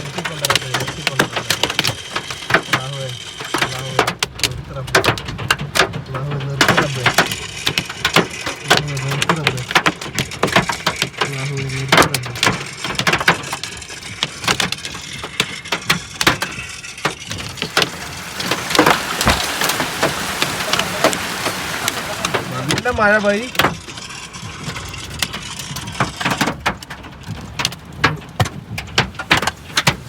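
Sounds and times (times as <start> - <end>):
hail clattering on hard surfaces: 0.0 - 30.0
rain hissing: 0.0 - 30.0.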